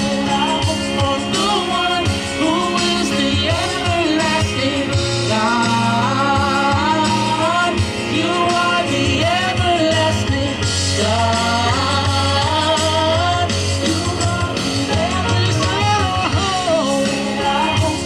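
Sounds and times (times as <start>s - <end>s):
band accompaniment: 0.0s - 18.0s
voices singing gospel song: 0.0s - 18.0s.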